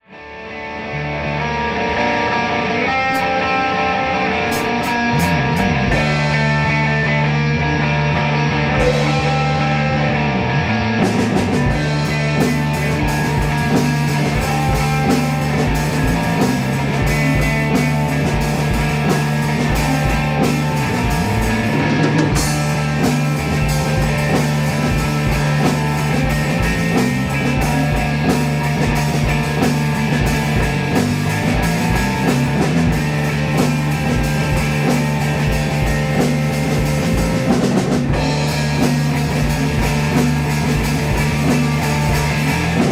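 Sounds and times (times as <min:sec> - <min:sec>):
psychedelic rock jam: 0:00.0 - 0:42.9.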